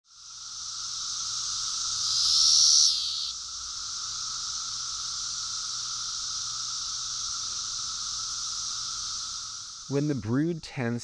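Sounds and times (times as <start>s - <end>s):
cicada chorus droning: 0.0s - 10.6s.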